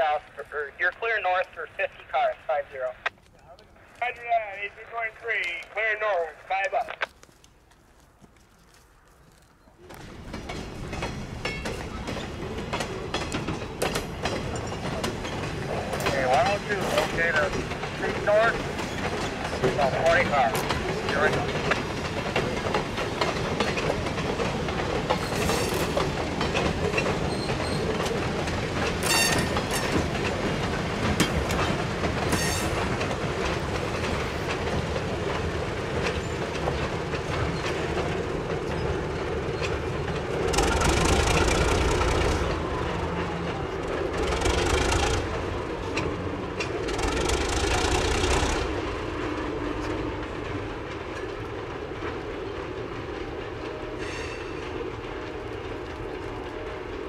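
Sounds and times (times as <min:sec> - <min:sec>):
rushes of train noise: 0:00.0 - 0:57.0
wheels clicking over rail joints: 0:07.1 - 0:57.0
freight train rumbling past: 0:09.8 - 0:57.0.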